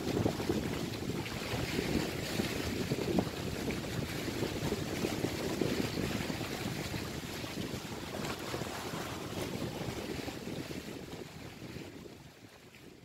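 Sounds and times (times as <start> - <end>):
sea waves washing against rocks: 0.0 - 12.0
wind buffeting microphone: 0.0 - 13.0.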